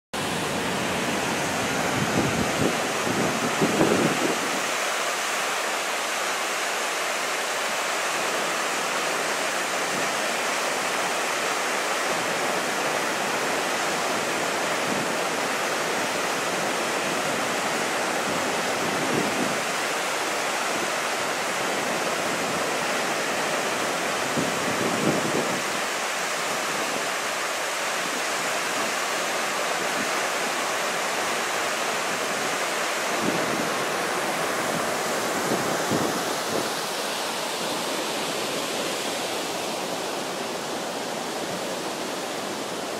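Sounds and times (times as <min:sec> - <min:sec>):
waterfall rushing: 0:00.2 - 0:42.9.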